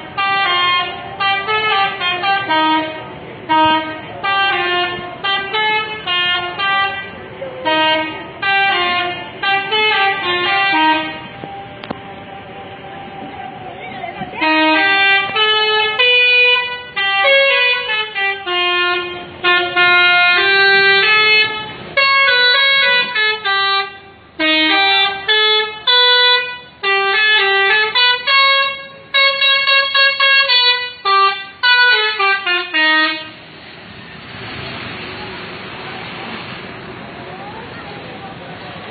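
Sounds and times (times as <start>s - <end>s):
bus musical horn melody: 0.0s - 12.0s, 14.3s - 33.6s.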